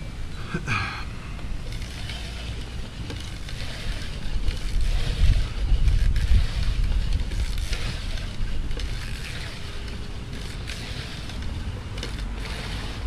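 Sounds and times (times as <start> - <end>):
wind buffeting microphone: 1.2 - 13.0.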